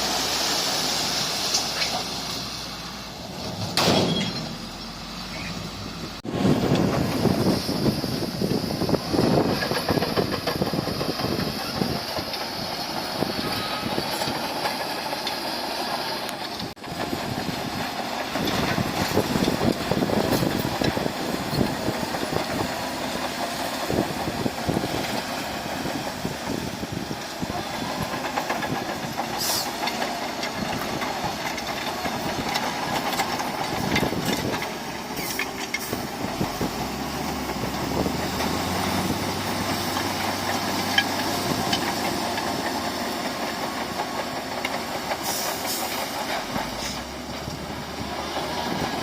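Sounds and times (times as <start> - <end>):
bulldozer clanking and rattling: 0.0 - 49.0
bulldozer diesel engine running: 0.0 - 49.0.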